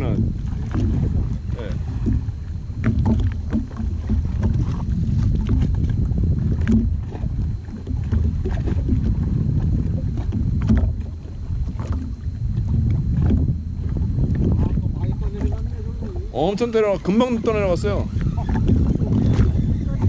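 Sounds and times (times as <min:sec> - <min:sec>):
jet ski engine rumble: 0:00.0 - 0:20.0
water splashing against hull: 0:00.0 - 0:20.0
wind on microphone: 0:00.0 - 0:20.0.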